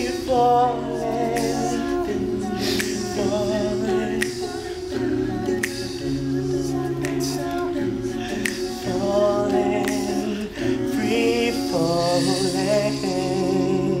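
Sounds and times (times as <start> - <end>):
male backing voices holding chords: 0.0 - 14.0.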